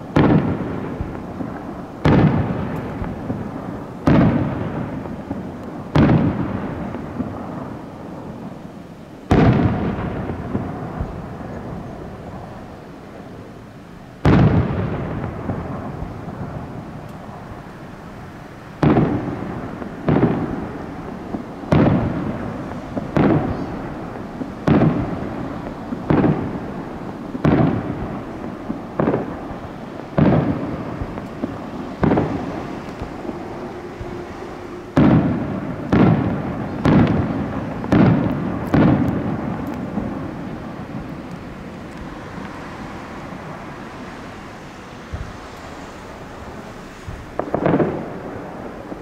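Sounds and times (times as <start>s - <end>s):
fireworks booming: 0.0s - 49.0s.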